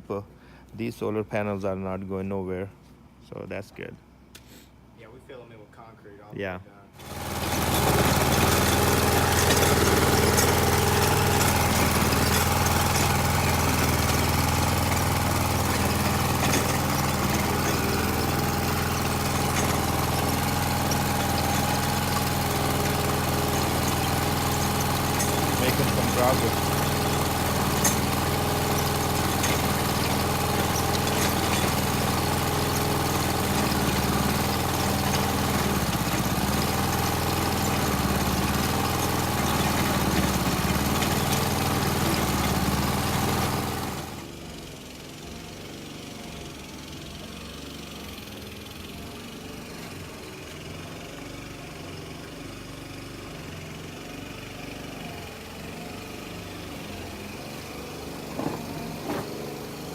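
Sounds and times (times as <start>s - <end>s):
digging machine engine running: 7.0s - 59.9s.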